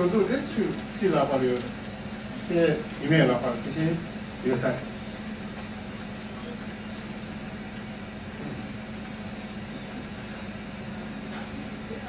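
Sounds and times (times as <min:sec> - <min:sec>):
low hum with faint hiss: 0:00.0 - 0:12.0.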